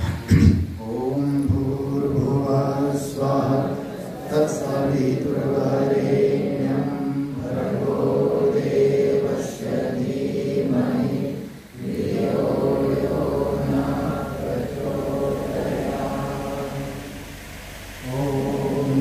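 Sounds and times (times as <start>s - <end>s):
voices chanting in unison: 0.8s - 19.0s.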